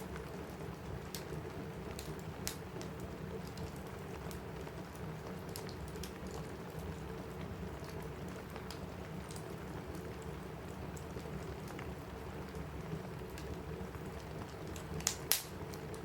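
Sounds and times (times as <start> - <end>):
rain on a roof: 0.0 - 16.0
wood fire crackling: 0.0 - 16.0.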